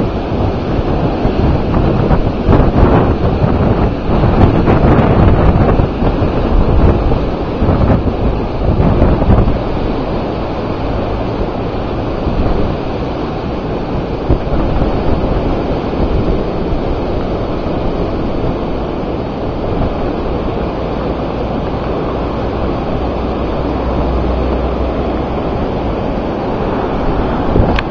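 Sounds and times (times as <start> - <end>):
wind blowing across microphone: 0.0 - 27.9.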